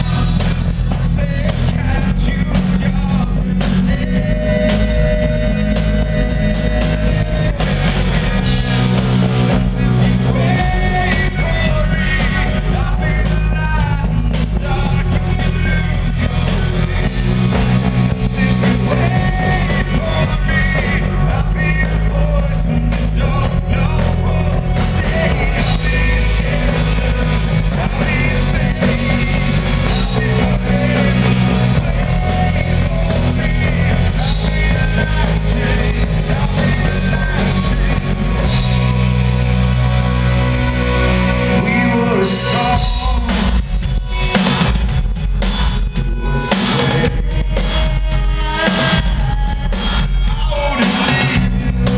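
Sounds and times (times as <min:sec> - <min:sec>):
man singing lead vocal: 0:00.0 - 0:44.7, 0:46.0 - 0:51.9
live rock band playing: 0:00.0 - 0:51.9.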